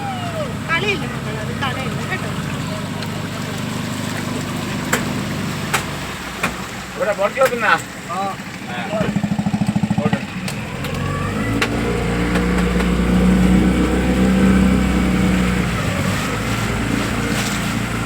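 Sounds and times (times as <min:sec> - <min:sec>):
motorboat engine: 0:00.0 - 0:18.0.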